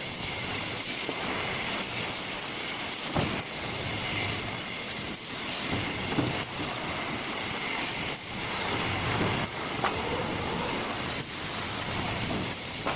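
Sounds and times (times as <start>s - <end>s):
packing machine running: 0.0s - 12.9s.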